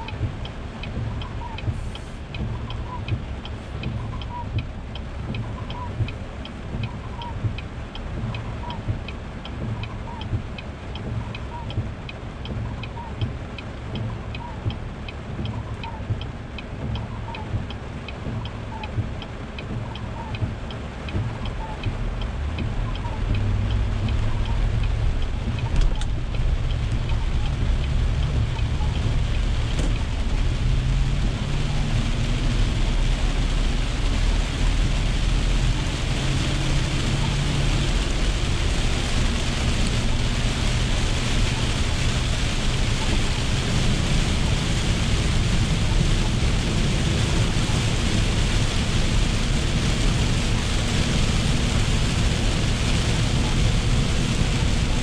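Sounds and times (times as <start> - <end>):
car engine and tyres rumbling: 0.0 - 55.0
rain and tyre spray hiss: 0.0 - 55.0
turn signal ticking: 0.0 - 55.0.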